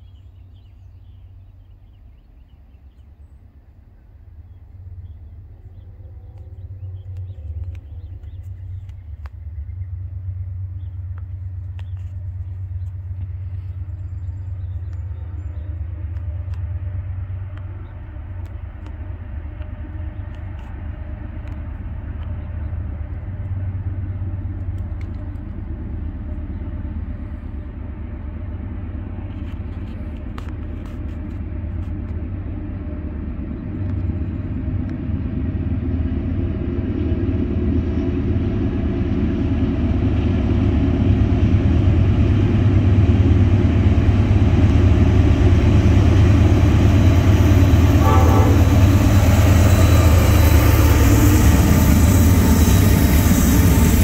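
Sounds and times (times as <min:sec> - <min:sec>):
locomotive engine rumble: 0:00.0 - 0:54.0.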